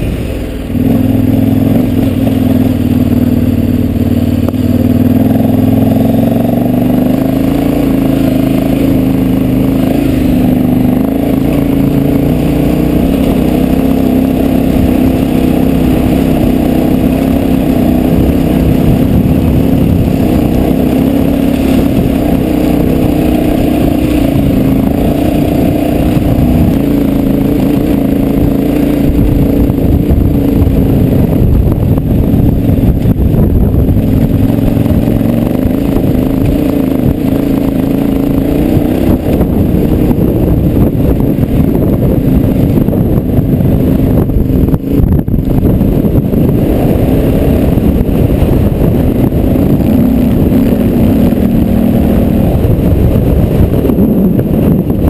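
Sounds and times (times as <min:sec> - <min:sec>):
motorcycle engine pulling uphill: 0:00.0 - 0:55.0.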